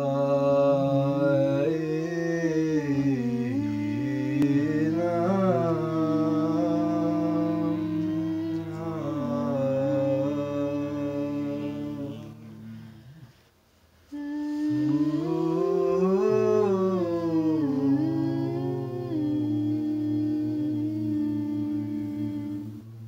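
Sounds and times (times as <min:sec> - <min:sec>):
voices humming together: 0:00.0 - 0:23.0.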